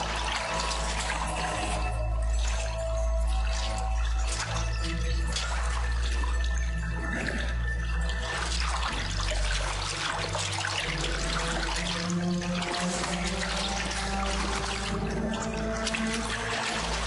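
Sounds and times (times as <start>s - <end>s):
low droning music: 0.0s - 17.0s
water splashing from wading: 0.0s - 17.0s.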